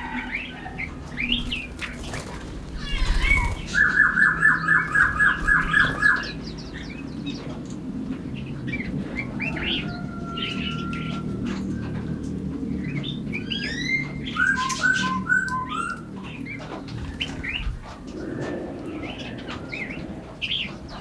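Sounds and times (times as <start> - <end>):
forest birds singing: 0.0 - 21.0.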